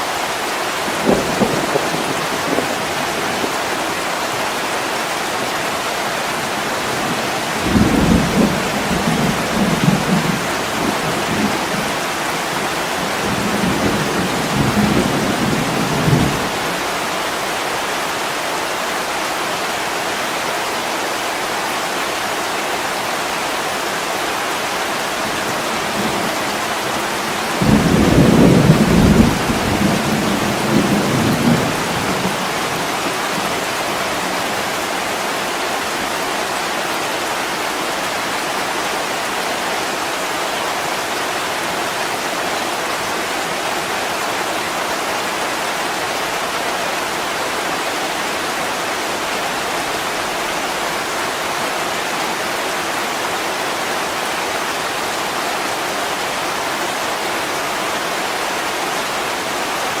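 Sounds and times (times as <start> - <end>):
heavy rain: 0.0 - 60.0.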